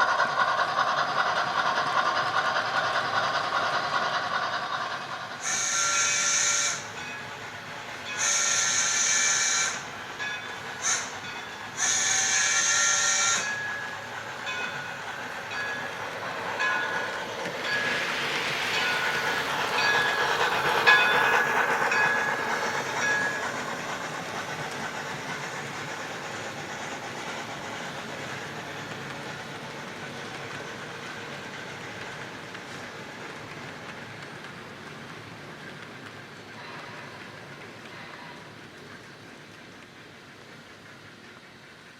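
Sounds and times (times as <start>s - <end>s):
model steam train running: 0.0s - 41.9s.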